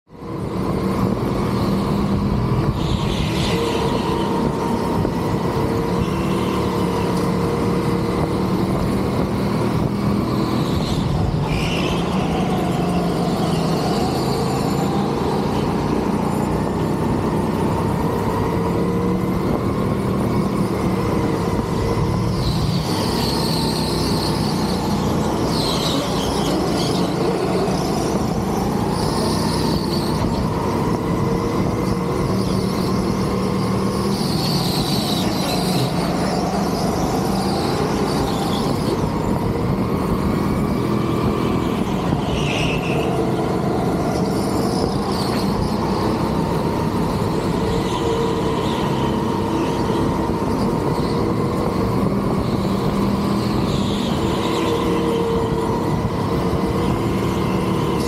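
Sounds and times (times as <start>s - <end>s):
wind and rolling noise: 0.1s - 58.0s.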